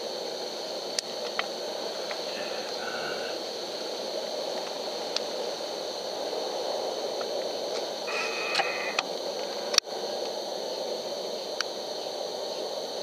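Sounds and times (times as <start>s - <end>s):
electronic noise hiss: 0.0s - 13.0s
faint high whine: 0.0s - 13.0s.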